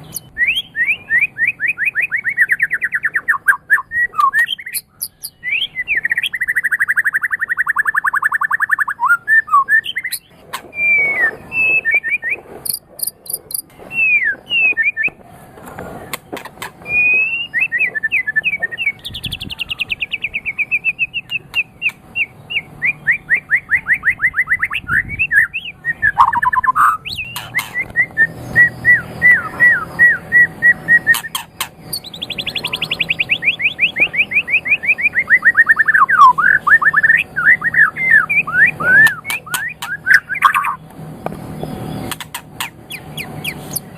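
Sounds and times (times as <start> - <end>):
bird singing varied song: 0.0 - 15.2, 16.1 - 43.9.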